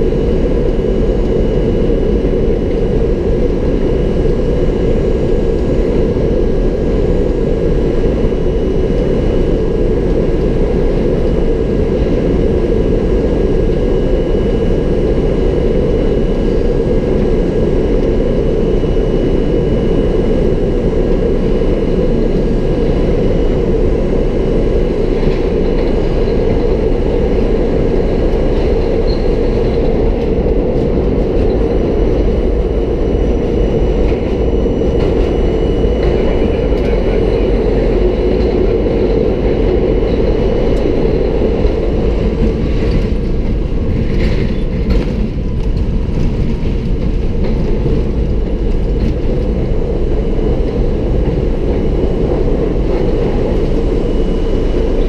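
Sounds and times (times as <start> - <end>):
wheels rumbling on rails: 0.0 - 55.0.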